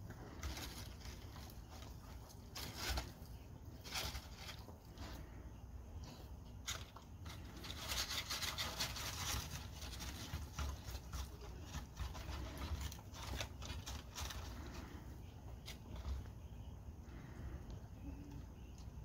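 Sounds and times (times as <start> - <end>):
paper balls crinkling: 0.0 - 19.0.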